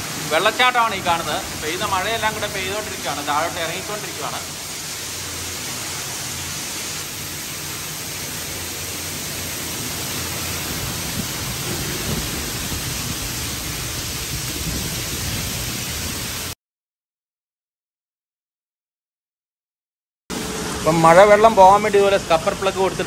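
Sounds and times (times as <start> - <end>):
rainwater cascading down steel stairs: 0.0 - 16.6, 20.3 - 23.0.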